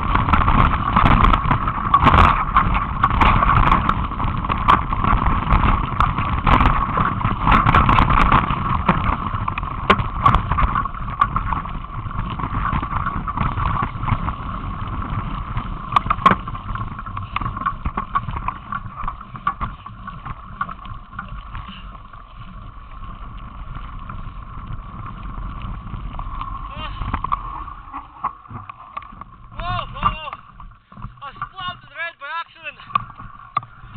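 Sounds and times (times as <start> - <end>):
mountain bike rattling on trail: 0.0 - 33.9.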